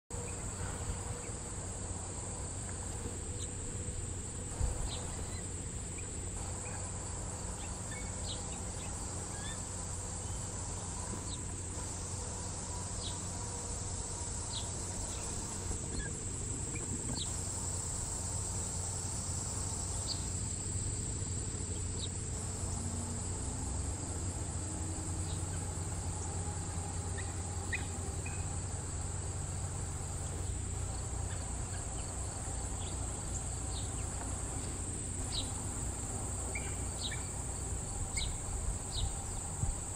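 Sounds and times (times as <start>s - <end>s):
insect chorus: 0.1s - 39.9s.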